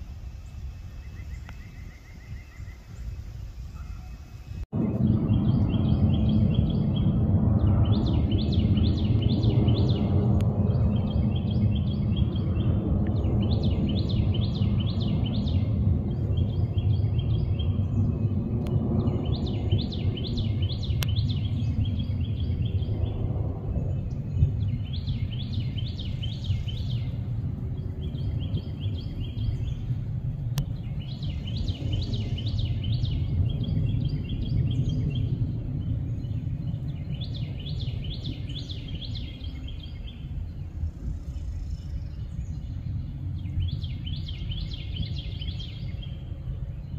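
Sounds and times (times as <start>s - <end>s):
songbird singing: 0.0s - 46.9s
steady low rumble: 0.0s - 46.9s.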